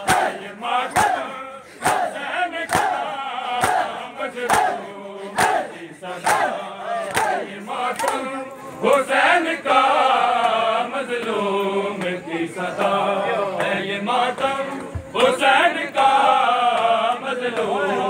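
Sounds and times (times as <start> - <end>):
men chanting a lament in unison: 0.0 - 18.0.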